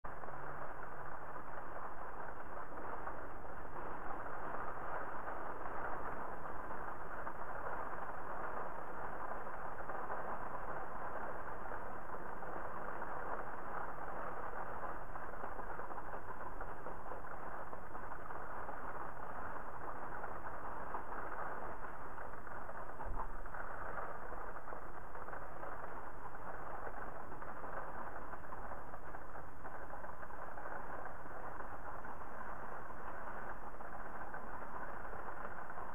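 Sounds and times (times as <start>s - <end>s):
rain and wind through window: 0.0s - 35.9s.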